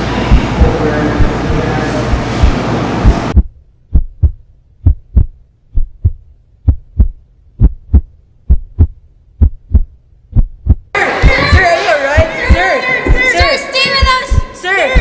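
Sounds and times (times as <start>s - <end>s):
faint low hum: 0.0s - 15.0s
heartbeat double thump: 0.3s - 15.0s.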